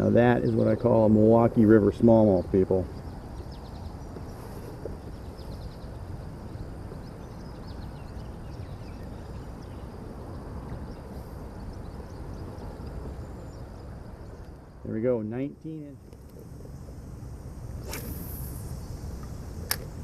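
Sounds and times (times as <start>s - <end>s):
low rumbling outdoor noise: 0.0s - 20.0s.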